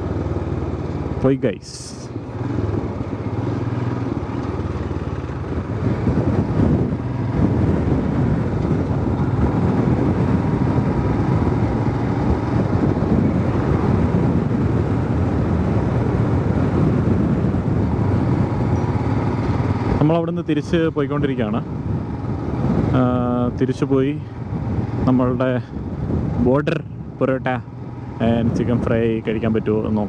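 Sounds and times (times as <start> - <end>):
vehicle engine and tyre noise: 0.0 - 30.0
wind rumble on microphone: 0.0 - 30.0.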